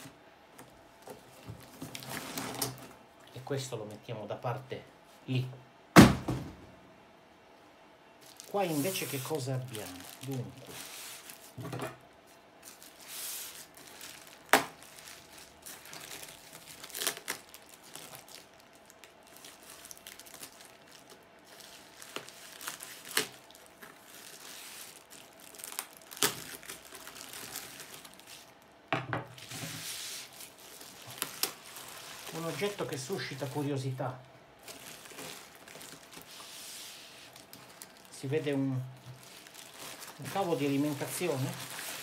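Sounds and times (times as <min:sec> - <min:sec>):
bubble wrap crinkling and tearing: 0:01.0 - 0:04.0, 0:08.2 - 0:11.6, 0:12.2 - 0:28.8, 0:29.4 - 0:42.0.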